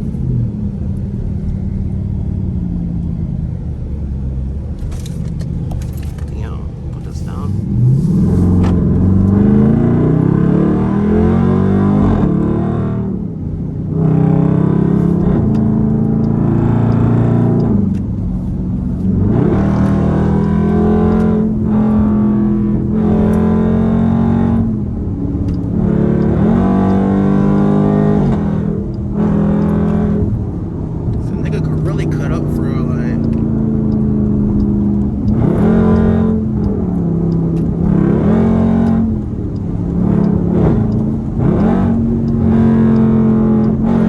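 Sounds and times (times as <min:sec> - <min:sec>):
car engine accelerating hard: 0:00.0 - 0:44.0.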